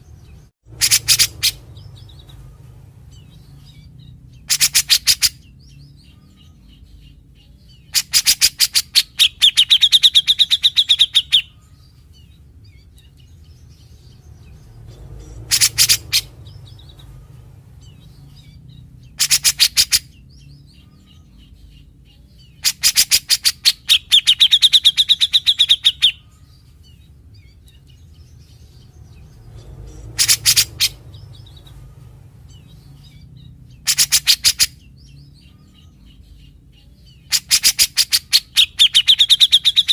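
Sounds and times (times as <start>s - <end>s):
bulbul harsh rattling song: 0.0s - 39.9s.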